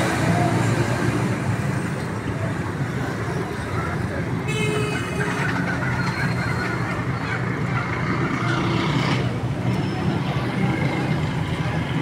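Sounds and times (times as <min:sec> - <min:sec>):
murmur of voices: 0:00.0 - 0:12.0
traffic rumble: 0:00.0 - 0:12.0.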